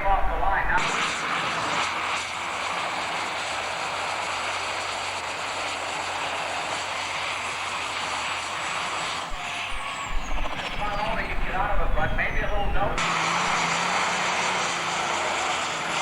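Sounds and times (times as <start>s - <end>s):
tractor engine running under load: 0.0s - 16.0s.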